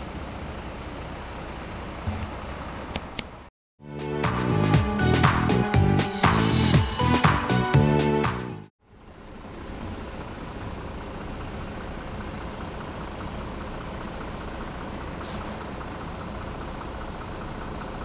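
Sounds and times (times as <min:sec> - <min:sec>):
city road traffic rumble: 0:00.0 - 0:03.5, 0:04.3 - 0:18.0.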